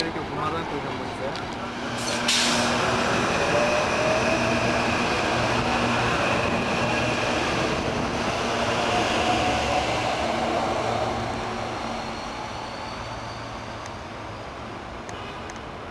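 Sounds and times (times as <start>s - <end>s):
electric train passing: 0.0s - 15.1s.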